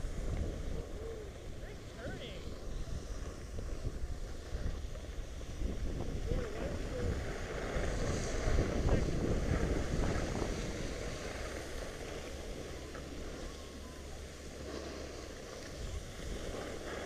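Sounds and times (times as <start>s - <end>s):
skis scraping on snow: 0.0s - 17.0s
wind on microphone: 0.0s - 17.0s.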